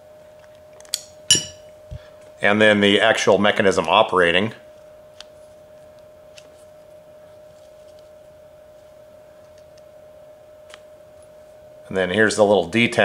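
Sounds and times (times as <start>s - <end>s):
steady faint hum: 0.0s - 13.0s.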